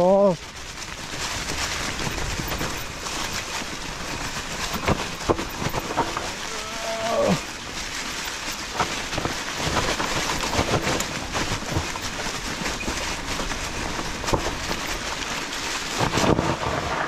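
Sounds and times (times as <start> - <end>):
tyres rolling over dry leaves: 0.0 - 17.0.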